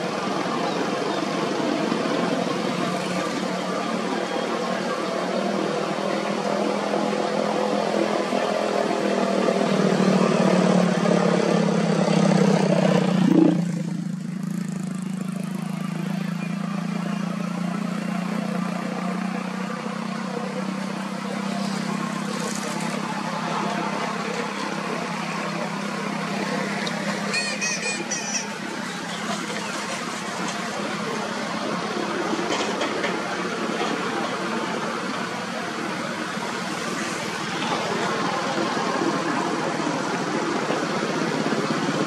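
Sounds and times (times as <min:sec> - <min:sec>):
vehicle engine hum: 0:00.0 - 0:42.0.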